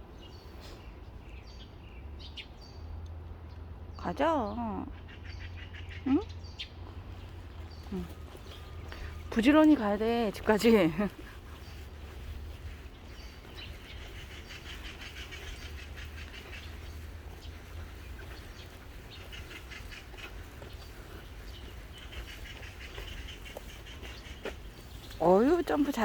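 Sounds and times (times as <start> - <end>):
birds chirping in trills: 0.0 - 26.0.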